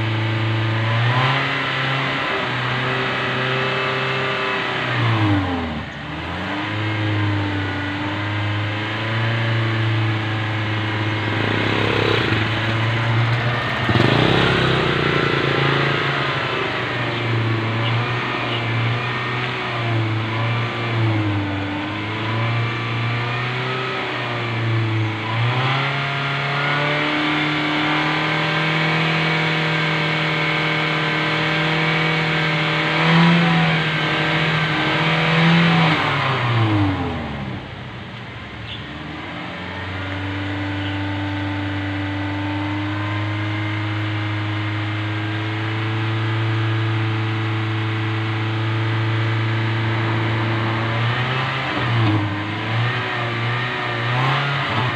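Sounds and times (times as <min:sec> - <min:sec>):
car engine at raised revs: 0:00.0 - 0:54.9.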